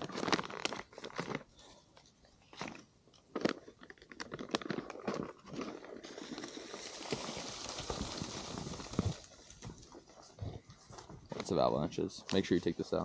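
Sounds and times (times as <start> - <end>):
crunching and clicking handling noises: 0.0 - 13.0.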